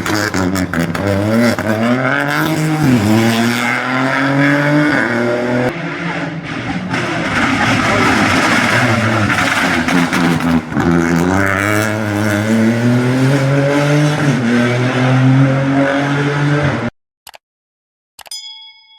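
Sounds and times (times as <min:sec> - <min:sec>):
rally car engine accelerating: 0:00.0 - 0:16.9.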